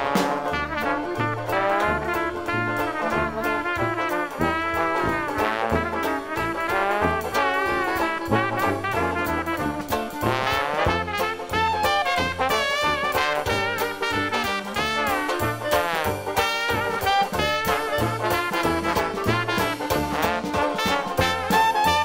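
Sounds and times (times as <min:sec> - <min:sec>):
jazz band playing: 0:00.0 - 0:22.0.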